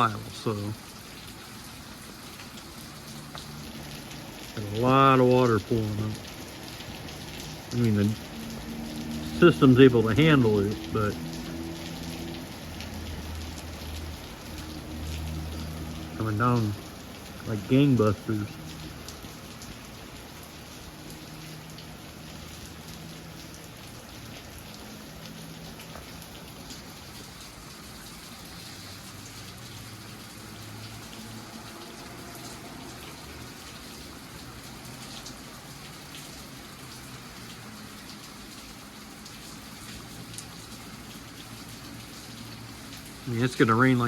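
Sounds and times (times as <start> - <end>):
heavy rain pouring: 0.0 - 44.0.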